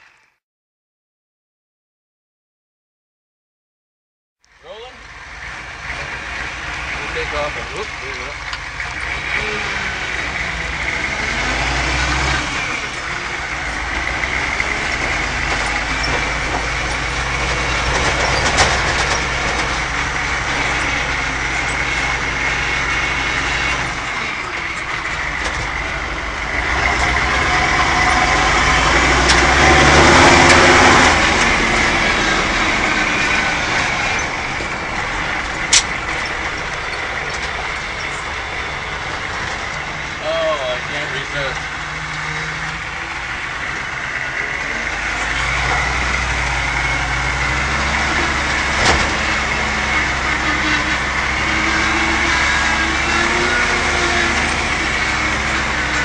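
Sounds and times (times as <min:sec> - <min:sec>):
diesel engine from inside cab: 0:04.4 - 0:56.0.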